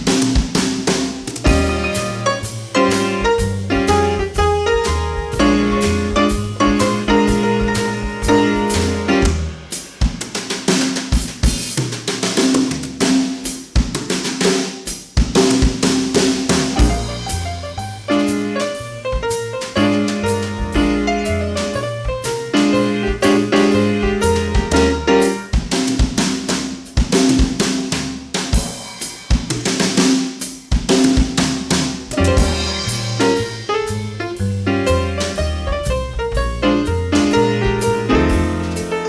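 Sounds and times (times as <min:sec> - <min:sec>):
jazz band playing: 0:00.0 - 0:13.6, 0:15.4 - 0:39.0
drum kit: 0:00.0 - 0:39.0.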